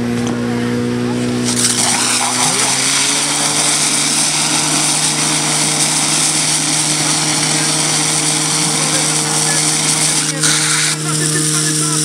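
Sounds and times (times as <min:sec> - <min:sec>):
fire pump engine running: 0:00.0 - 0:12.0
water jets hissing: 0:01.3 - 0:12.0.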